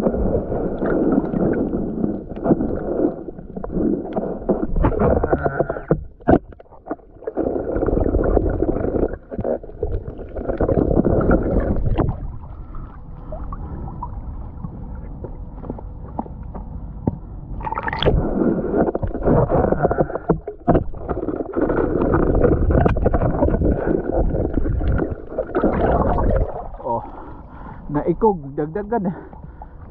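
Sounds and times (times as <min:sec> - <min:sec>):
muffled underwater gurgling: 0:00.0 - 0:16.6, 0:17.6 - 0:29.9.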